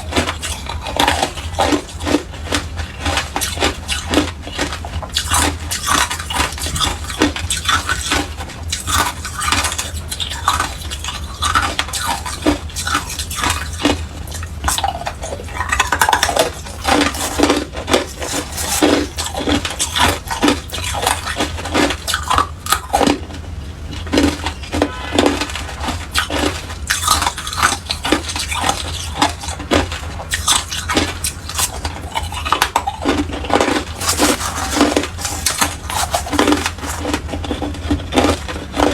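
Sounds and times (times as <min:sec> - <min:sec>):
ice crunching being chewed: 0:00.0 - 0:38.9
steady low hum: 0:00.0 - 0:38.9.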